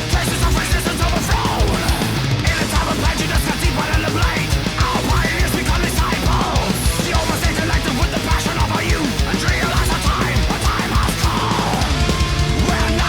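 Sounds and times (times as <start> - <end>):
heavy metal music: 0.0 - 13.0.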